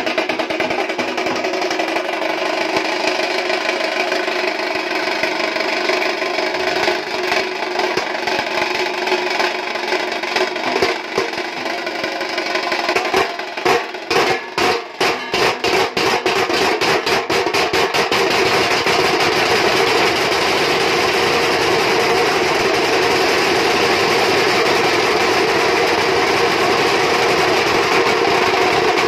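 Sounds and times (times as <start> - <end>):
dhol and tasha drumming: 0.0 - 29.0.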